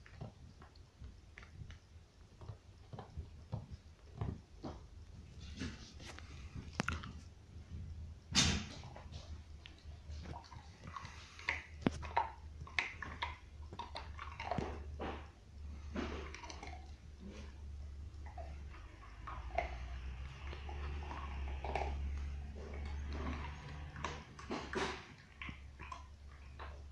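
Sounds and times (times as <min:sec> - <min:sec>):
dog chewing on a bone: 0:00.0 - 0:07.3, 0:08.7 - 0:26.9.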